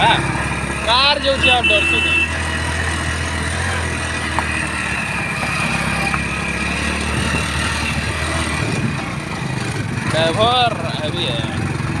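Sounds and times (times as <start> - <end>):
road noise on dirt road: 0.0 - 12.0
vehicle engine running: 0.0 - 12.0.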